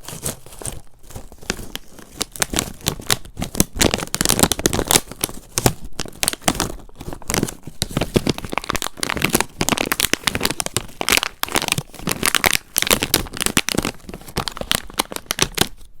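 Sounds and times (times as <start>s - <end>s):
crinkling and crackling: 0.0s - 16.0s.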